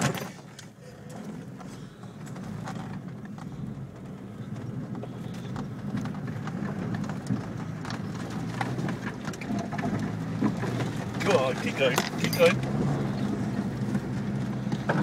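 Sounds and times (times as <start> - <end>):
vehicle engine at low revs: 0.0 - 15.0.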